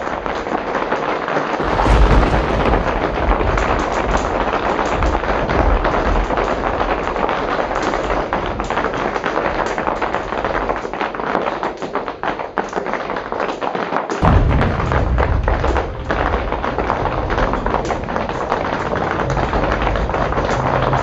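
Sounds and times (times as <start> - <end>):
hail pelting canvas roof: 0.0 - 21.0
deep rumble: 1.6 - 12.7, 14.2 - 21.0.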